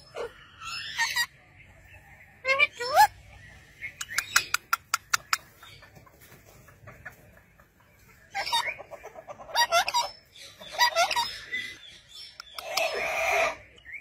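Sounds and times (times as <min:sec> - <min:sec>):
parakeets chirping and squawking: 0:00.0 - 0:05.9, 0:08.1 - 0:13.9.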